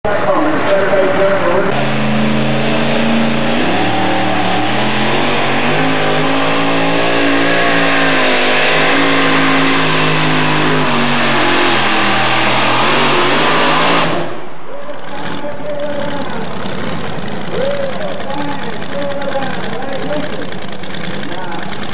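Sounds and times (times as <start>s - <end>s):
truck engine running at high revs: 0.1s - 21.9s.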